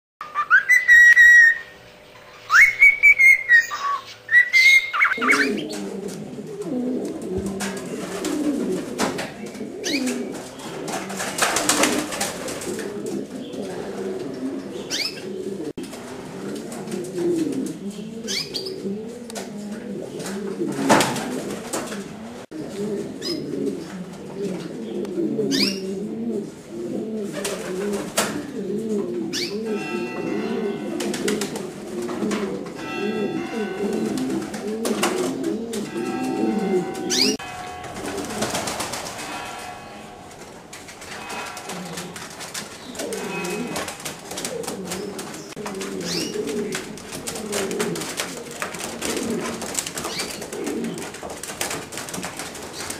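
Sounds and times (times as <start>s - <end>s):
pigeons cooing: 2.5s - 52.9s.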